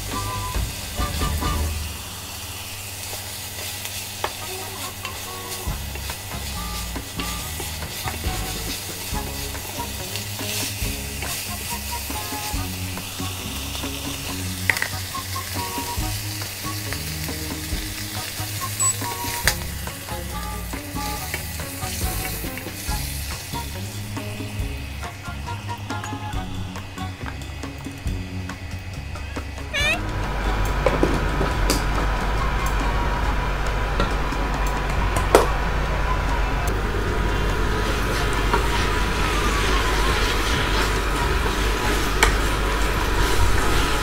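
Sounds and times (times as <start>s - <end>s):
shrimp sizzling in a frying pan: 0.0s - 29.1s, 36.9s - 44.0s.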